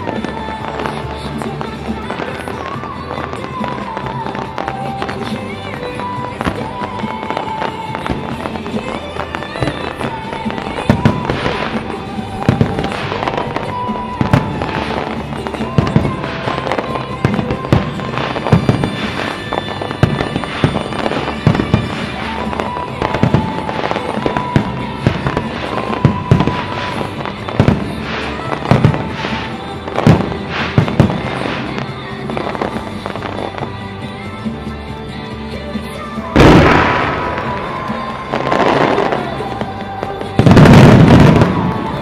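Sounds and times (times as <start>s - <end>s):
background music: 0.0s - 42.0s
fireworks bursting: 0.0s - 42.0s.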